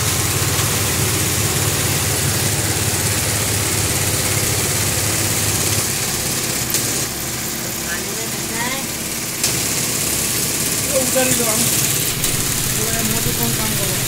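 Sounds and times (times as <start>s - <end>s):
sewing machines humming: 0.0s - 14.0s.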